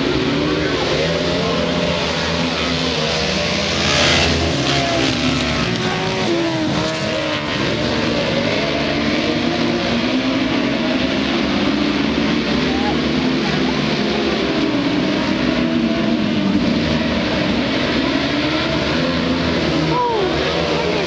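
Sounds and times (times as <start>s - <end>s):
motorcycle engines racing: 0.0s - 21.0s.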